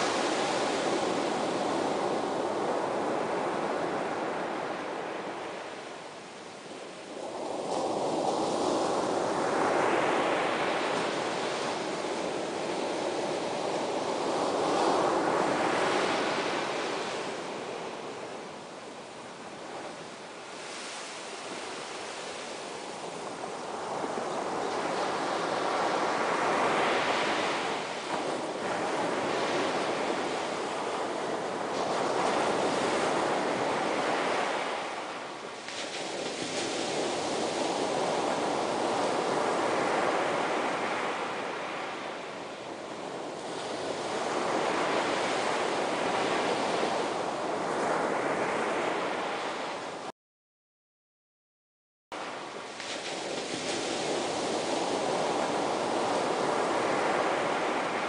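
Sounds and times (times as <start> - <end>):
ocean surf breaking: 0.0 - 50.1, 52.2 - 58.0.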